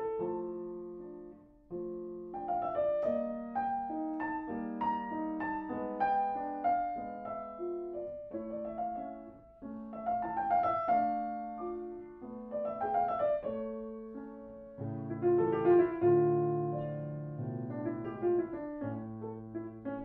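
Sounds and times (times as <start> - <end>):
grand piano classical piece: 0.0 - 20.0.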